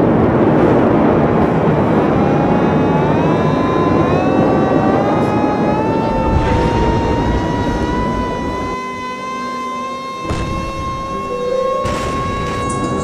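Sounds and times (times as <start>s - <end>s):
hand-cranked siren wailing: 1.8s - 13.0s.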